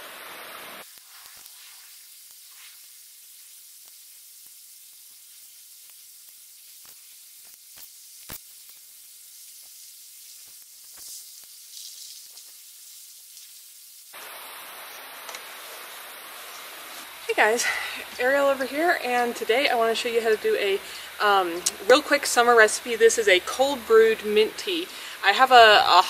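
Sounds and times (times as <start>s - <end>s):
leaves rustling: 0.0s - 26.0s
steady soft hiss: 0.0s - 26.0s.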